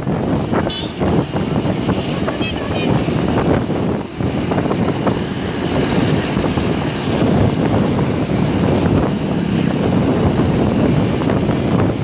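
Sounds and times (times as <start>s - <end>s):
road vehicles rumbling: 0.0s - 12.0s
wind buffeting microphone: 0.0s - 12.0s.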